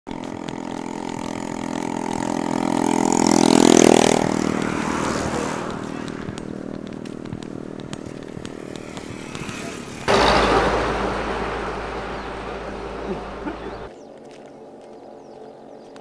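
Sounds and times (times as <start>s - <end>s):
motor vehicle passing by: 0.2s - 13.9s.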